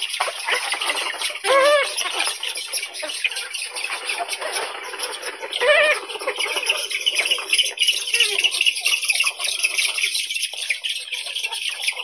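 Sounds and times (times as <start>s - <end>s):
spoonbills chattering: 0.0s - 12.0s.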